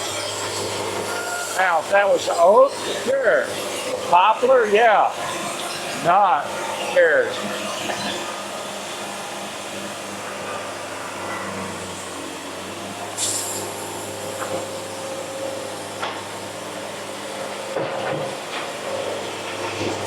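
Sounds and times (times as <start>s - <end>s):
sawmill hum and hiss: 0.0s - 20.0s.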